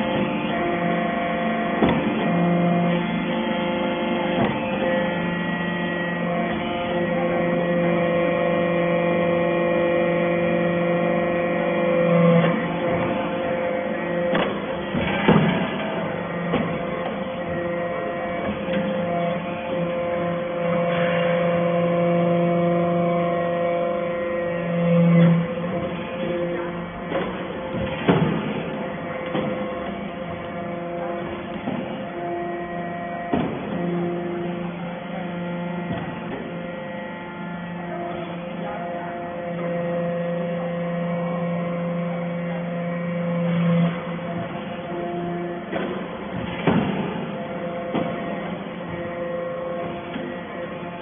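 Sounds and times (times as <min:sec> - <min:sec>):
baling press machine hum: 0:00.0 - 0:51.0.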